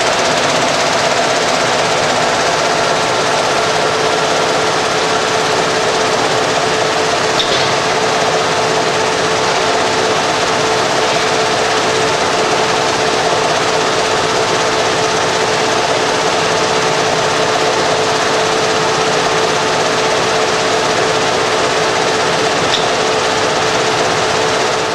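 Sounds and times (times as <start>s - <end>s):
industrial sewing machine whirring: 0.0s - 24.9s.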